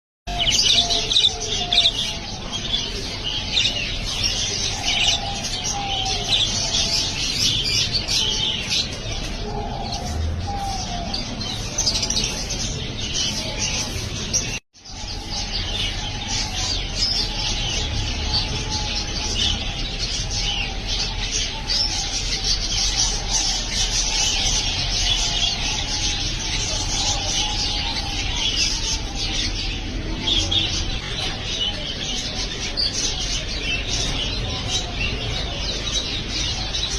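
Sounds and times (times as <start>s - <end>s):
budgerigars chirping and chattering: 0.3s - 36.9s.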